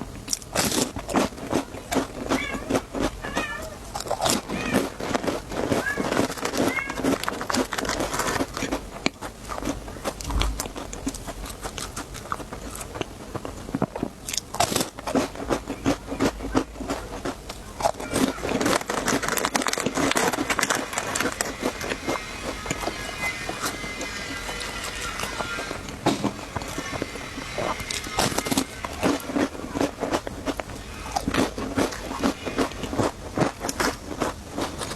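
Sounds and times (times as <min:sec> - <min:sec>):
crunching crisp snacks: 0:00.0 - 0:34.9.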